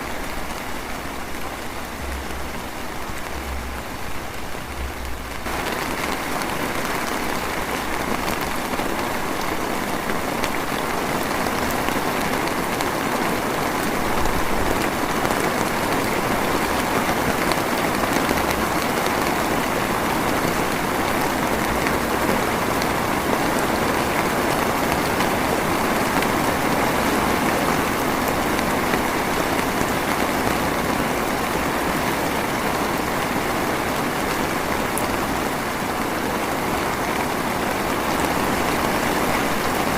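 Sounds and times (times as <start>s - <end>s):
drizzling rain: 0.0s - 39.9s.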